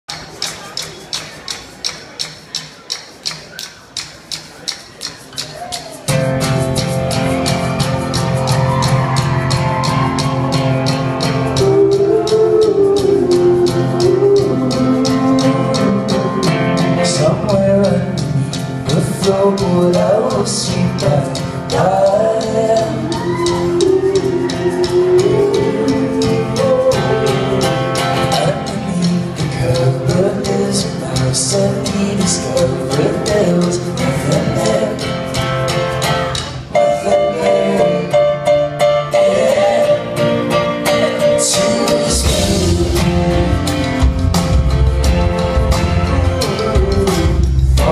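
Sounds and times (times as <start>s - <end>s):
steady drum beat: 0.1s - 38.2s, 39.0s - 47.9s
acoustic guitars: 0.1s - 47.9s
keyboard: 0.1s - 47.9s
person singing: 5.4s - 35.5s, 36.7s - 47.9s.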